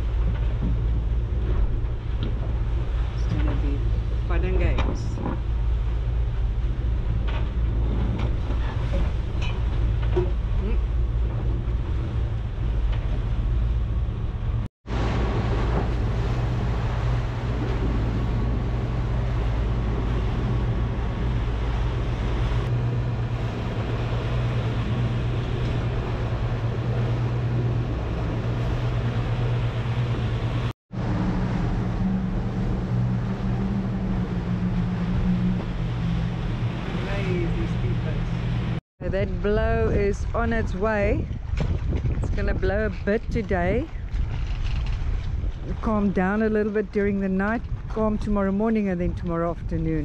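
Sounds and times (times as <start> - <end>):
sea rushing past hulls: 0.0 - 50.0
steady low hum: 0.0 - 50.0
wind buffeting microphone: 0.0 - 50.0.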